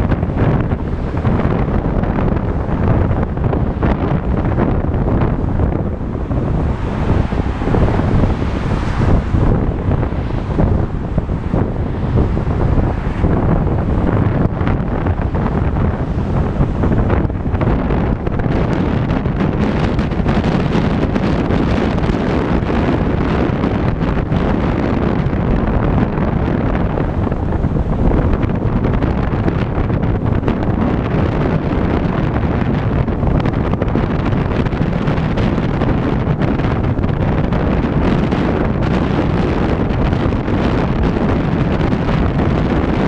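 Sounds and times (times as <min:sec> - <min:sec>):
car road noise on highway: 0:00.0 - 0:43.0
wind buffeting microphone: 0:00.0 - 0:43.0.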